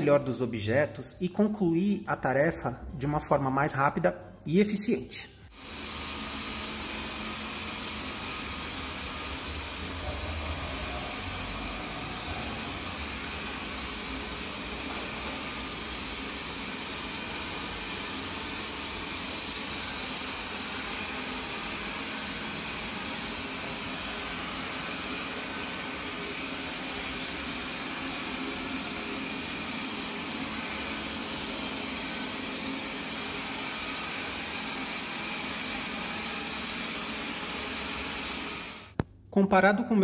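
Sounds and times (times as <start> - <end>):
robot vacuum whirring: 5.5 - 38.9.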